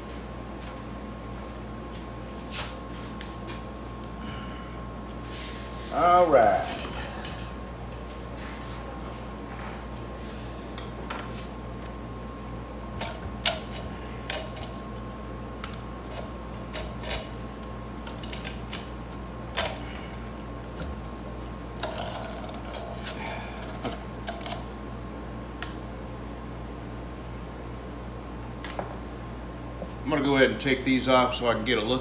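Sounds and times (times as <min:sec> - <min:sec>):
air conditioner and fan hum: 0:00.0 - 0:32.0.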